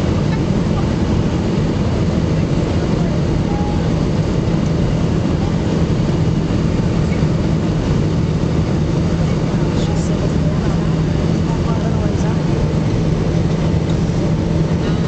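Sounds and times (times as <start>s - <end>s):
airliner cabin rumble: 0.0s - 15.0s
steady low hum: 0.0s - 15.0s.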